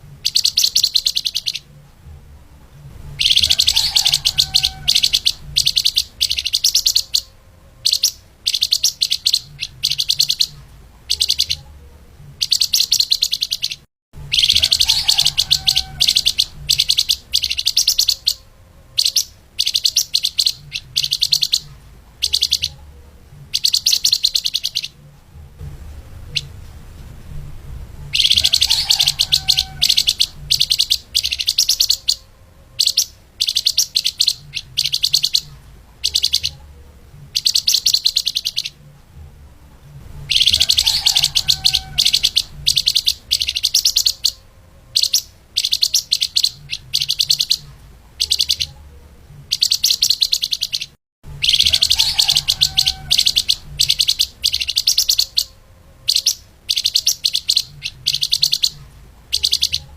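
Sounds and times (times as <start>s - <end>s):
songbird chattering song: 0.0s - 25.4s, 26.2s - 26.7s, 28.0s - 39.2s, 40.2s - 59.9s.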